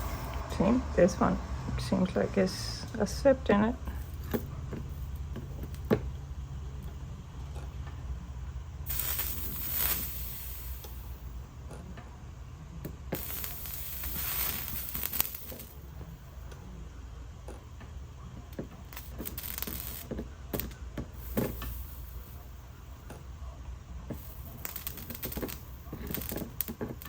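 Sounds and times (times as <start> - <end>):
solder sizzling and crackling: 0.0 - 27.0
steady low hum: 0.0 - 27.0.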